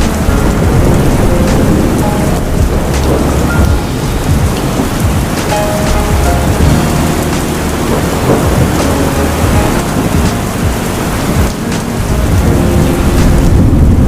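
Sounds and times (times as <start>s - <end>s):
heavy rain falling: 0.0s - 14.0s
thunder rumbling: 0.0s - 14.0s.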